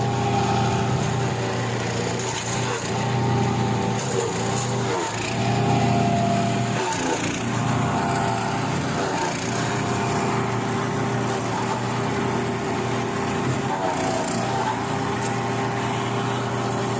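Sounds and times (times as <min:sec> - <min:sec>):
wood chipper engine running: 0:00.0 - 0:16.9.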